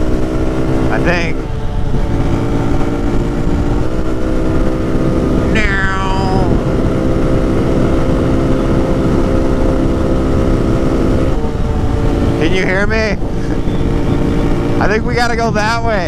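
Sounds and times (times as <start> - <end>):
motorcycle engine running: 0.0 - 16.0
wind rumble: 0.0 - 16.0.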